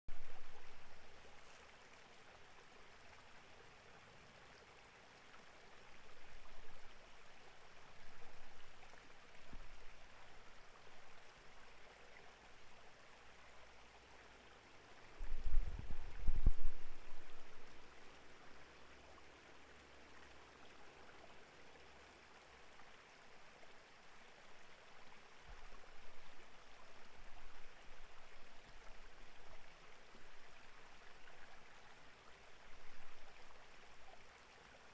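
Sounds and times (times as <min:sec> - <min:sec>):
stream flowing: 0:00.1 - 0:34.9.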